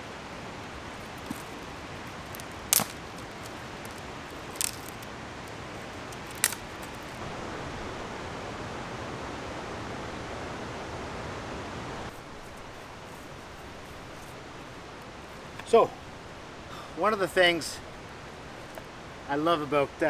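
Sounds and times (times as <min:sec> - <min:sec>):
river rapids rushing: 0:00.0 - 0:19.8.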